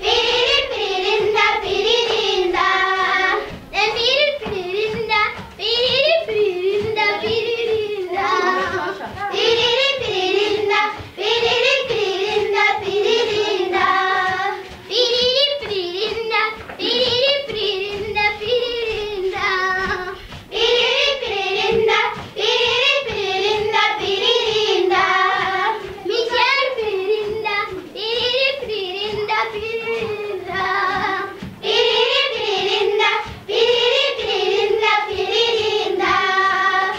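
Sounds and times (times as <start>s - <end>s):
girls singing together: 0.0s - 36.9s.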